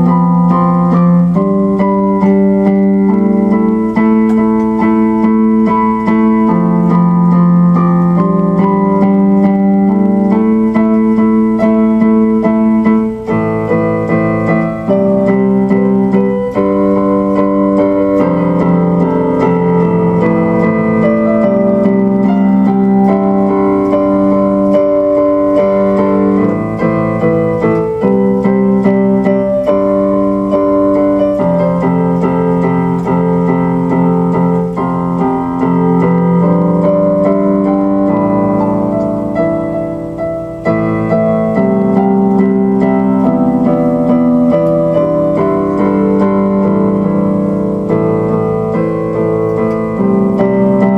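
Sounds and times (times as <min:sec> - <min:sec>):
piano and electric piano chords: 0:00.0 - 0:50.9.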